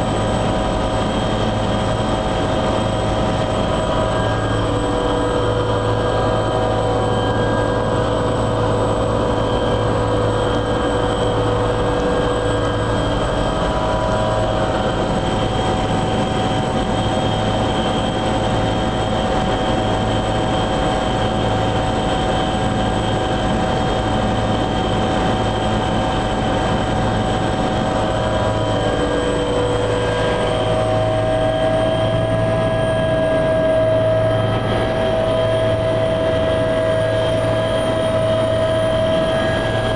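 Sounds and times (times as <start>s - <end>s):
helicopter turbine engine whine: 0.0s - 39.9s.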